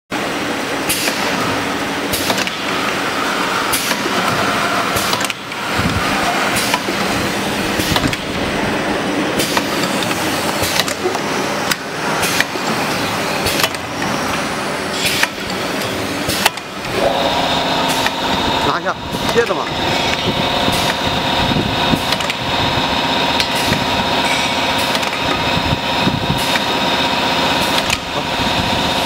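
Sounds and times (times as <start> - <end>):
filling machine running: 0.3 - 29.0.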